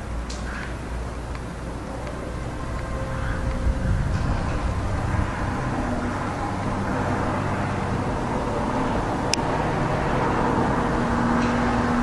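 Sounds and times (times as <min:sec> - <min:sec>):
traffic rumble with faint hum: 0:00.0 - 0:12.0.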